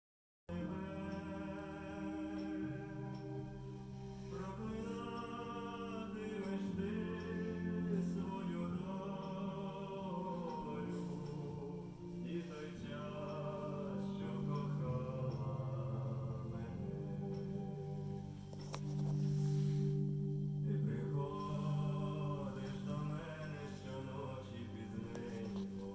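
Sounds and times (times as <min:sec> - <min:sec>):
choir-like sustained notes: 0:00.5 - 0:25.9
low drone: 0:00.5 - 0:25.9.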